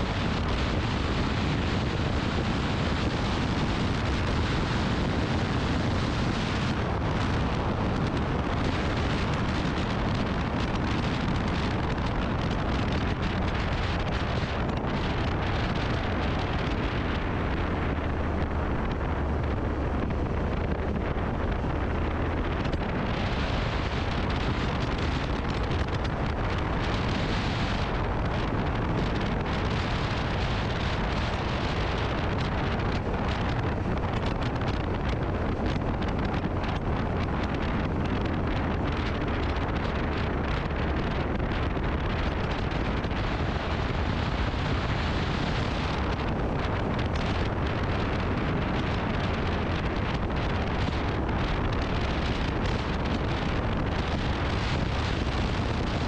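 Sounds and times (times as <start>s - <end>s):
motorcycle engine and road noise: 0.0s - 56.0s
wind rushing over microphone: 0.0s - 56.0s.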